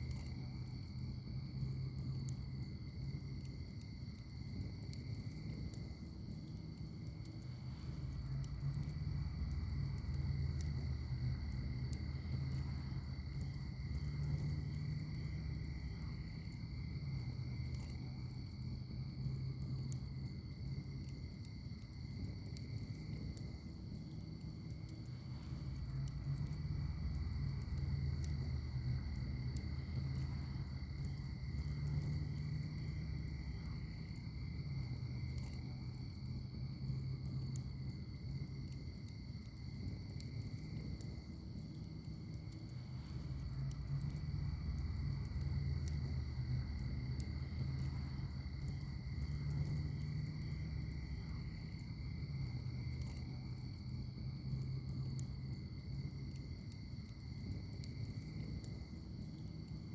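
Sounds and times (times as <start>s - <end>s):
insect chorus: 0.0s - 59.9s
wood fire crackling: 0.0s - 59.9s.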